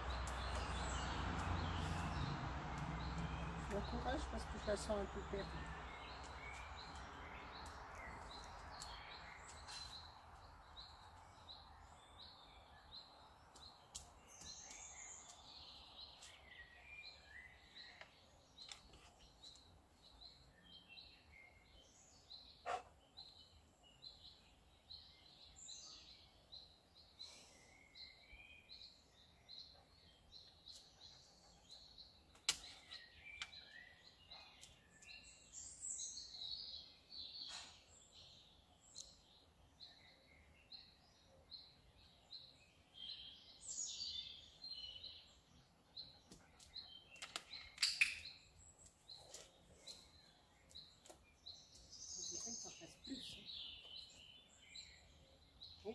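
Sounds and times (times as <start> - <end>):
faint birdsong: 0.0 - 55.9.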